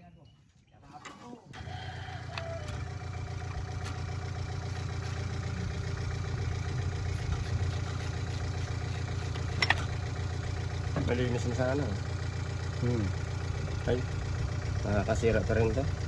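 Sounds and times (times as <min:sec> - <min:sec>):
engine idling: 0:01.5 - 0:16.0.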